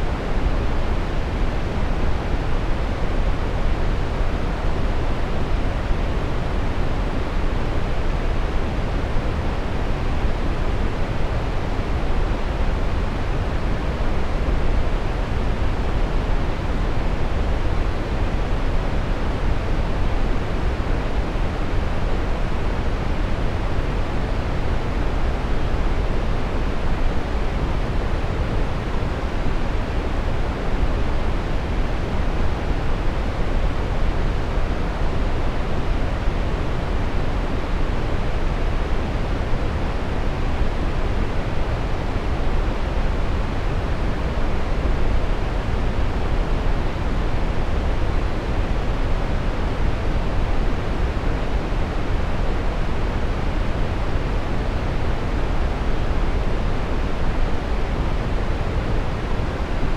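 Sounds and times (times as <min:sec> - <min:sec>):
brown noise: 0:00.0 - 0:59.9.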